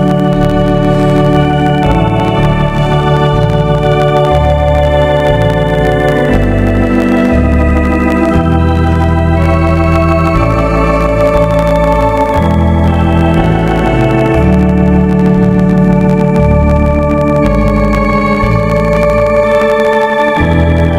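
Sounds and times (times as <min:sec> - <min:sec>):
organ playing a hymn: 0:00.0 - 0:20.9.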